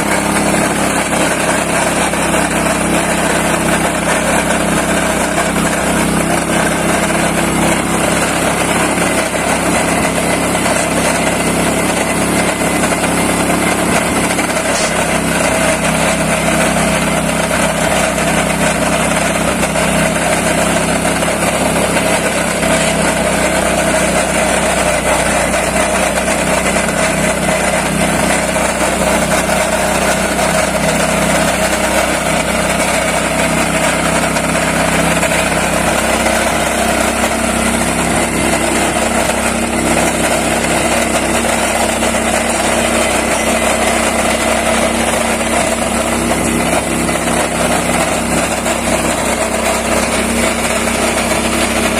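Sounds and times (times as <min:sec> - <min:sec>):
coffee mill running: 0:00.0 - 0:51.9.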